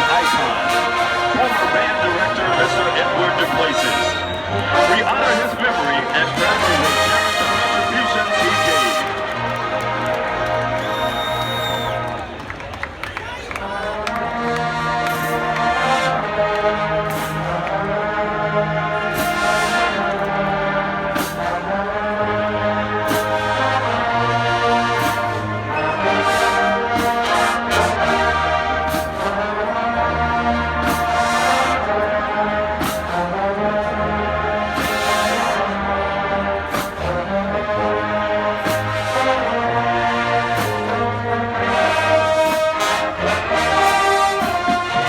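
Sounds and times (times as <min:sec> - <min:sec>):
marching band brass chords: 0:00.0 - 0:45.0.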